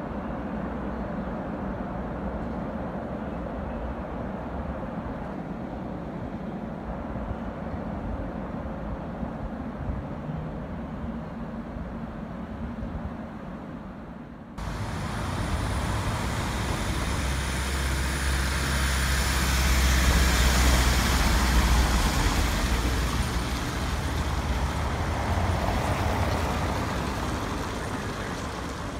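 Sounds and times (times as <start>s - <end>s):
road train engine drone: 0.0s - 28.9s
tyres on cobbled street: 0.0s - 28.9s.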